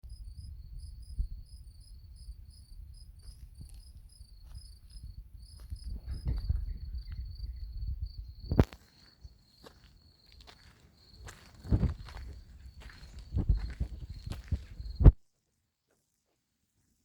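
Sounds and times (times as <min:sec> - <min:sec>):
crickets chirping: 0:00.0 - 0:15.2.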